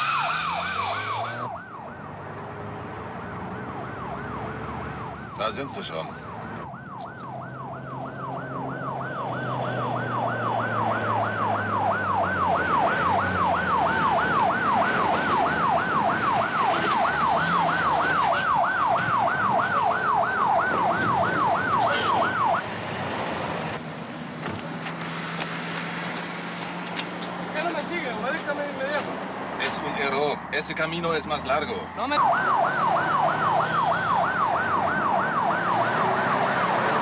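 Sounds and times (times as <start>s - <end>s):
police siren wailing: 0.0s - 22.8s, 29.6s - 37.0s.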